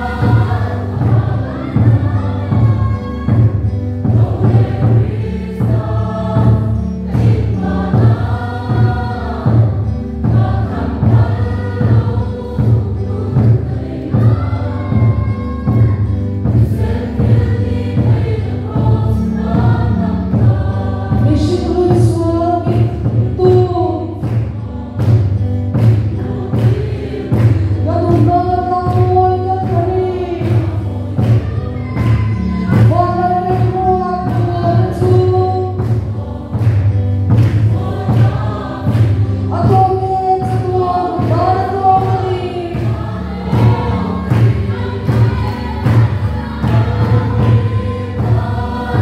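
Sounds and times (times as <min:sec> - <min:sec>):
congregation singing a hymn: 0:00.0 - 0:49.0
large drum beating: 0:00.0 - 0:49.0.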